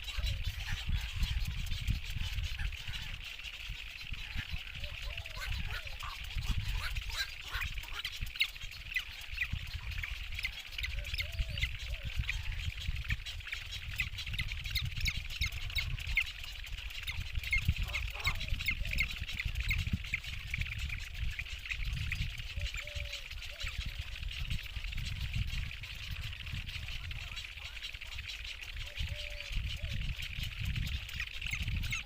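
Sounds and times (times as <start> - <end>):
chicks chittering: 0.0 - 32.0
faint lower bird calls: 0.0 - 32.0
low rumble of wind: 0.0 - 32.0.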